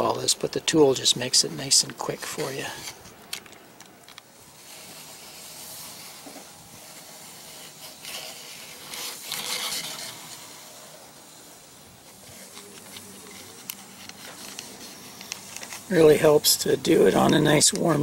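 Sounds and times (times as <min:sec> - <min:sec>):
screen tool scraping hiss: 0:01.3 - 0:03.2, 0:04.3 - 0:18.0.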